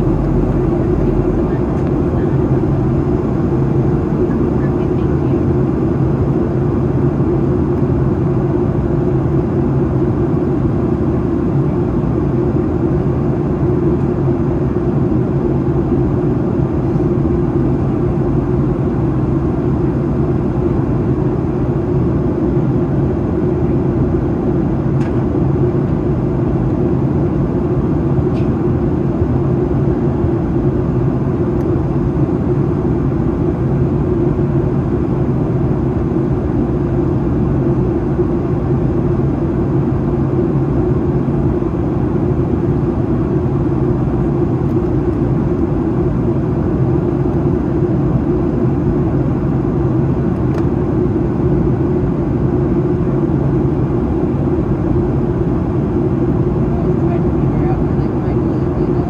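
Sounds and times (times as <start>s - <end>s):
airplane cabin engine drone: 0.0s - 59.0s
constant low hum: 0.0s - 59.0s.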